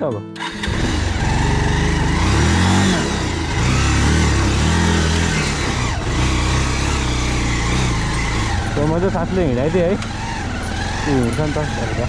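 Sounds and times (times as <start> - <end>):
motorcycle engine revving: 0.4 - 12.0.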